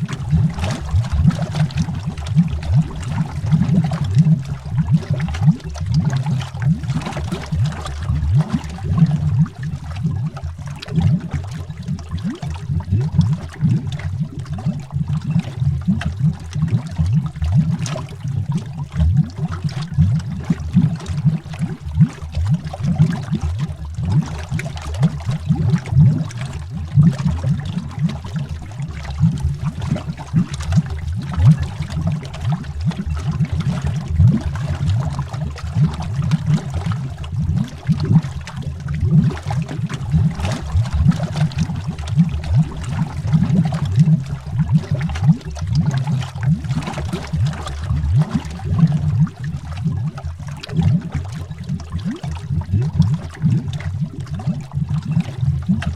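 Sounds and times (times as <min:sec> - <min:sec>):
underwater bubbling: 0:00.0 - 0:55.9.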